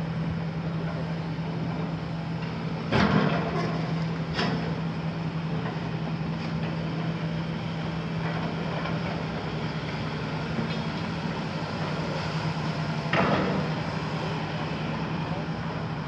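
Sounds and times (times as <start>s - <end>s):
excavator diesel engine and hydraulics: 0.0s - 16.0s.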